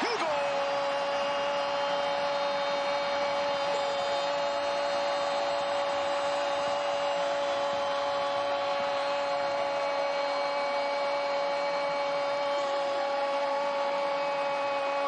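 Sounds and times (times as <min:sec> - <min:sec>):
stadium crowd noise: 0:00.0 - 0:15.0.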